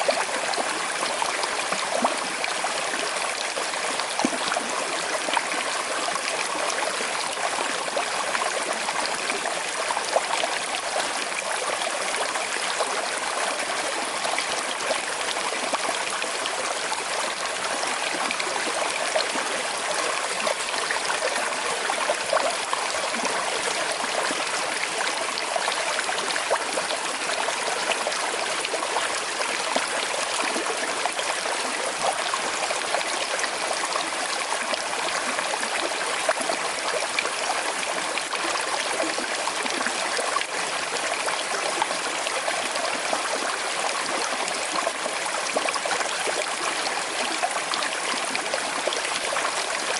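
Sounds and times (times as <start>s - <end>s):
river flowing over stones: 0.0s - 49.9s.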